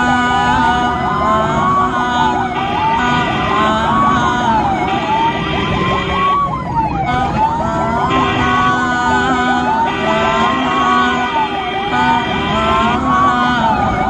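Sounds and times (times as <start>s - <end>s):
ambulance siren wailing: 0.0s - 14.0s
engine and traffic noise: 0.0s - 14.0s.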